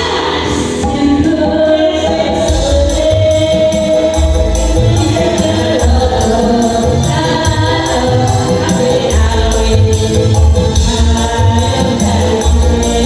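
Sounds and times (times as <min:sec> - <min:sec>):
music with singing voices: 0:00.0 - 0:13.0.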